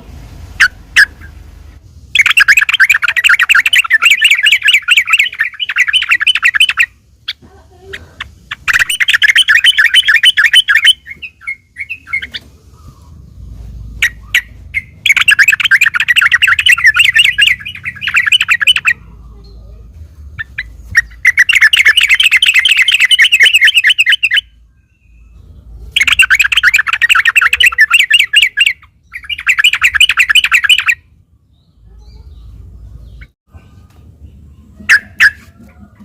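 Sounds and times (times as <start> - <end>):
bird singing chattering phrases: 2.1 - 33.4.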